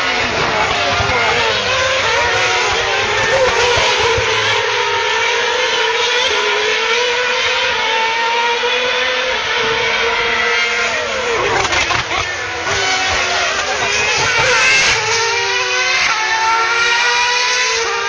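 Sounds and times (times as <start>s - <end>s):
racing car engines high revs wail: 0.0s - 18.0s
racing car passing: 0.0s - 18.0s.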